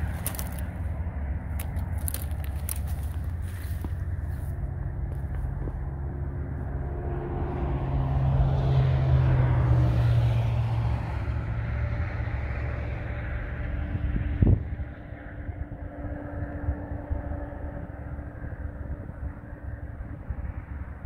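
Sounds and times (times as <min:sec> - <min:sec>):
low traffic rumble: 0:00.0 - 0:21.0
vehicle passing on highway: 0:00.0 - 0:21.0.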